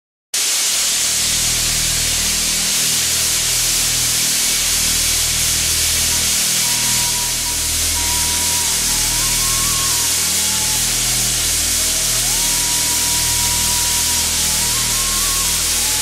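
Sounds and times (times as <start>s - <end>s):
chickpeas shaking in steel hopper: 0.4s - 16.0s
steady hiss: 0.4s - 16.0s
low machine hum: 1.1s - 16.0s.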